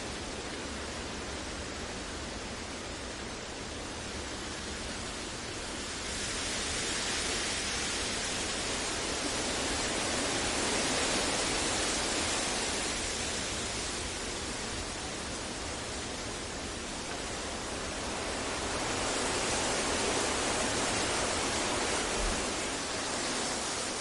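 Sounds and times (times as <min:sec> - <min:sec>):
continuous rushing hiss: 0:00.0 - 0:24.0.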